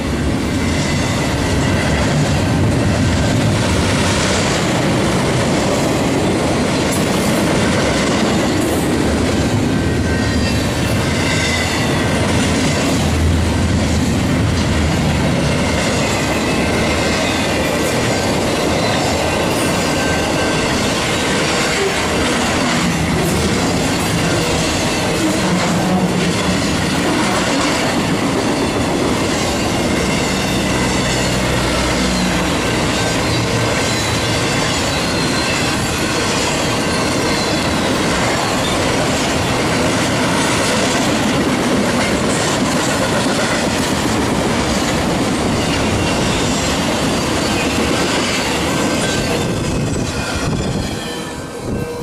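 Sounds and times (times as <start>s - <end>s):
steel train wheels on rails: 0.0s - 52.0s.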